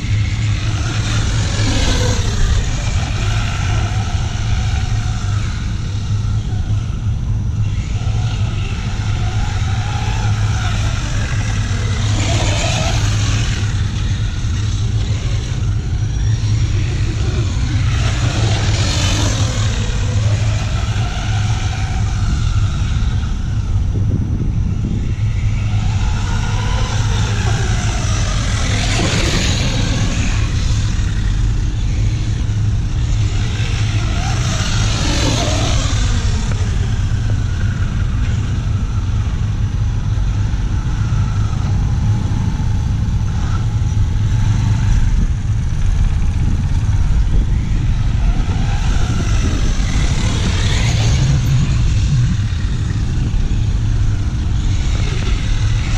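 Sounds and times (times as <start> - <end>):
electric motor whining: 0.0 - 55.9
steady low rumble: 0.0 - 55.9.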